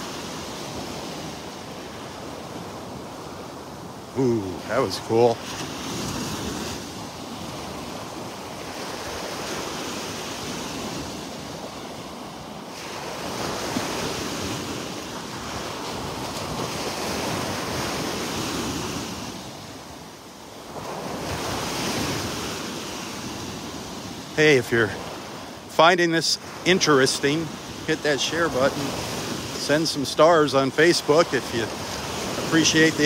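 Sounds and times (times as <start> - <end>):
surf breaking on beach: 0.0 - 33.0.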